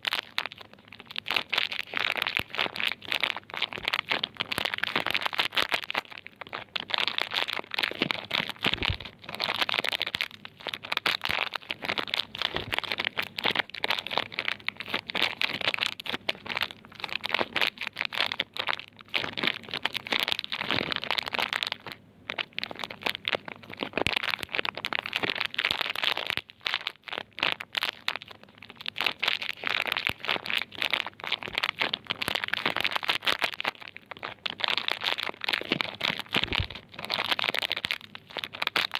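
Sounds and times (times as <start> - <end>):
wrapping crinkling: 0.0 - 38.9.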